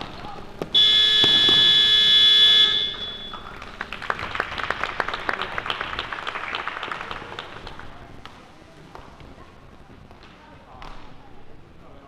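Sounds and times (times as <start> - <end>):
arena buzzer tone: 0.0 - 10.1
people clapping: 0.0 - 12.0.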